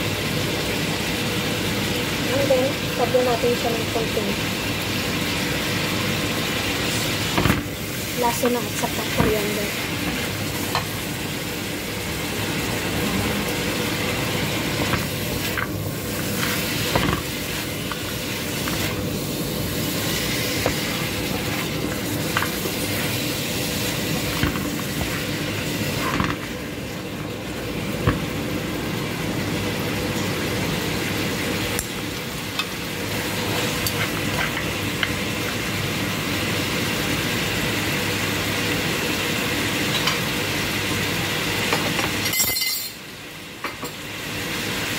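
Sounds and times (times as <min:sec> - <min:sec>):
meat sizzling in a frying pan: 0:00.0 - 0:44.9.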